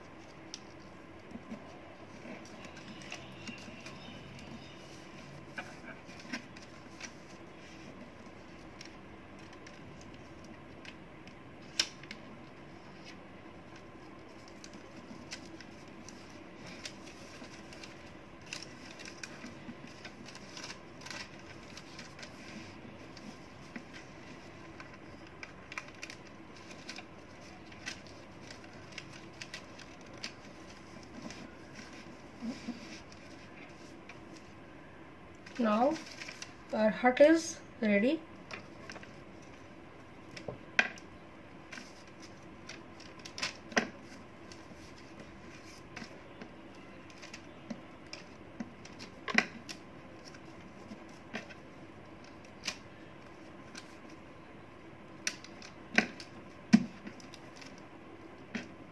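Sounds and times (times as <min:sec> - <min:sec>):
paper being folded and creased: 0:00.0 - 0:11.0, 0:11.6 - 0:34.5, 0:35.4 - 0:36.7, 0:41.7 - 0:54.2, 0:55.2 - 0:57.9
faint room hum: 0:00.0 - 0:58.9.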